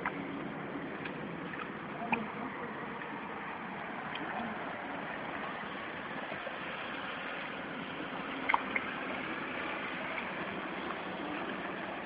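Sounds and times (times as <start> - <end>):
fish splashing in water: 0.0 - 12.0.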